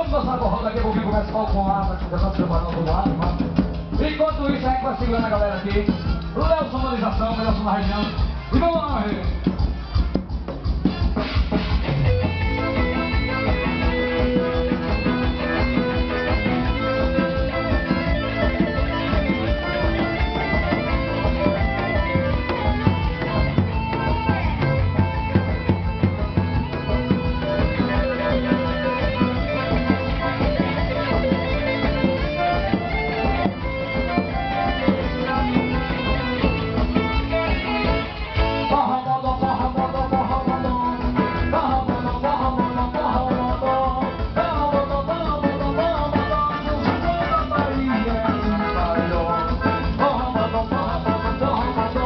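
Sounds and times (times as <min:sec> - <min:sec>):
lead guitar: 0:00.0 - 0:52.0
live band music with steady beat: 0:00.0 - 0:52.0.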